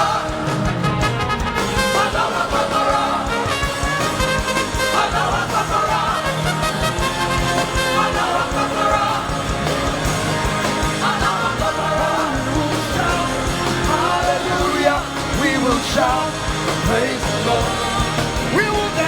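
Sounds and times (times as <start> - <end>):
gospel band playing: 0.0 - 19.0
voices singing along: 0.0 - 19.0.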